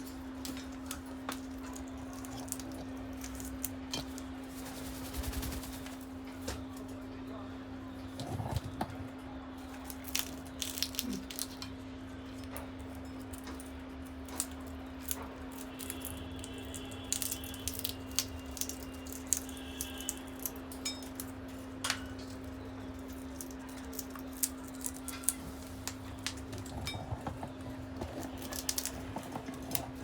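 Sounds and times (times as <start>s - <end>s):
parrots cracking peanut shells: 0.0s - 5.3s, 9.6s - 30.0s.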